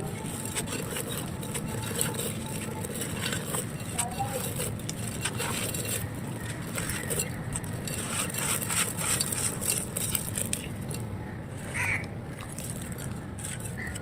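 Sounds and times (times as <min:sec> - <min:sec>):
dry clay crushed and crumbling: 0:00.0 - 0:14.0.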